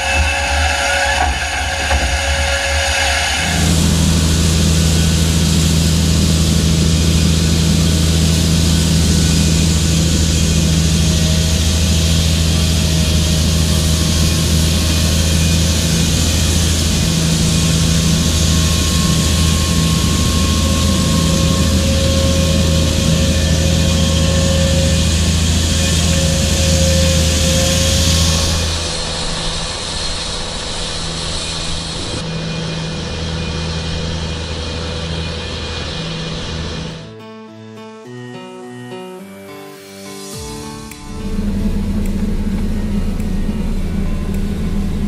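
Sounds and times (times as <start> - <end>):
tractor engine drone: 0.0 - 37.0, 40.1 - 45.0.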